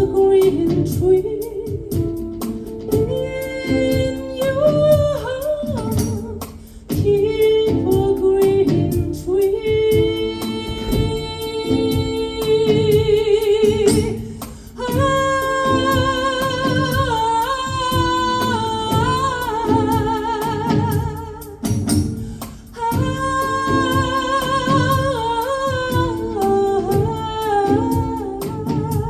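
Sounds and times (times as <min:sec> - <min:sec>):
hang drum low notes: 0:00.0 - 0:29.0.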